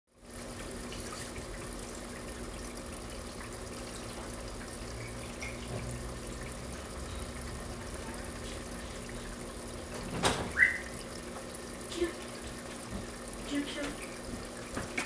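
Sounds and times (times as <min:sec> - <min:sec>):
rushing noise like running water: 0:00.1 - 0:15.0.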